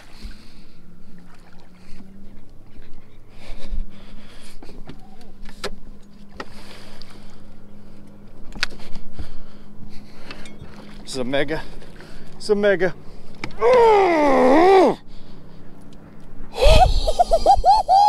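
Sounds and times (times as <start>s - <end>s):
electric boat motor humming: 0.0s - 18.0s.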